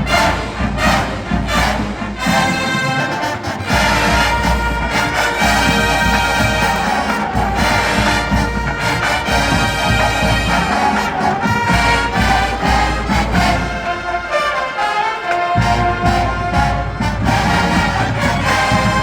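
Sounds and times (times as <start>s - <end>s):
low brass: 0.0s - 19.0s
marching drums: 0.0s - 19.0s
trumpets and trombones: 0.0s - 19.0s.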